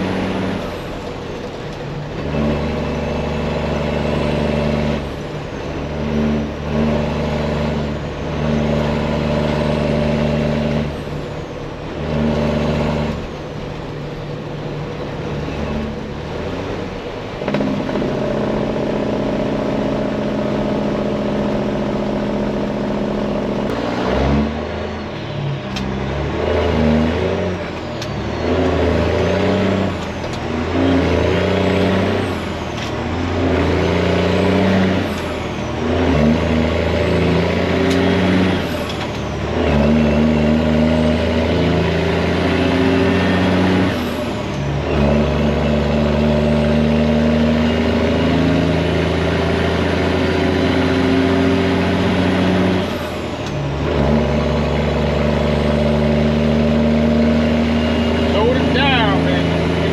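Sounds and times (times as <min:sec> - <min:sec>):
truck engine pulling under load: 0:00.0 - 0:59.9.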